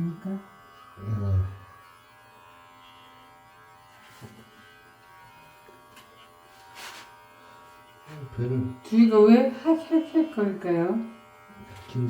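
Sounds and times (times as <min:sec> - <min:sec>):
electric hair clipper buzzing: 0:00.0 - 0:12.0.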